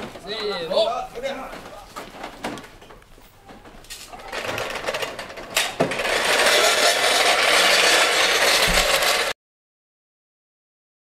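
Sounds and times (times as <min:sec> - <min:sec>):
wheels rolling over pavement: 0:00.0 - 0:09.4.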